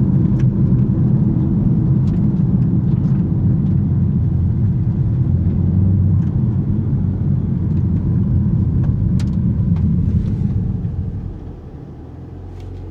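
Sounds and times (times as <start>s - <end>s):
car engine rumbling: 0.0s - 12.9s
road noise: 0.0s - 12.9s.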